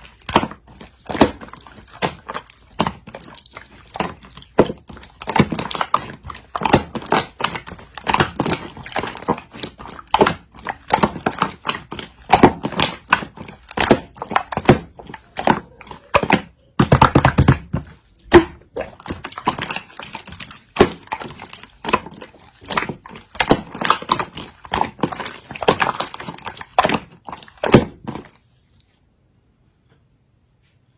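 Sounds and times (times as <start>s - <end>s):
slime squelching and popping: 0.0s - 28.5s.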